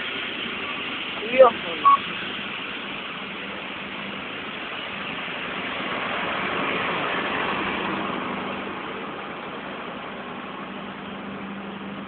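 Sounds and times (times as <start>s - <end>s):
train coaches rolling past: 0.0s - 12.0s.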